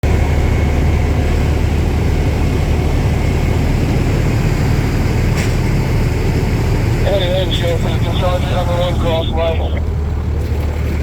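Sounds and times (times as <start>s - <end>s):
fire truck diesel engine rumbling: 0.0s - 11.0s.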